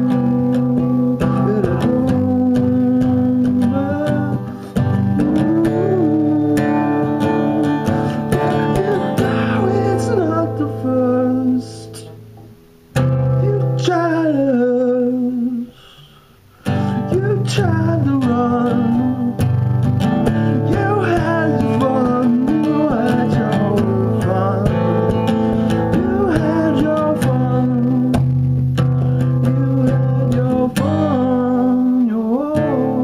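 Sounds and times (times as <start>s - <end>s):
man singing: 0.0s - 12.2s, 13.2s - 33.0s
acoustic guitar strumming: 0.0s - 33.0s.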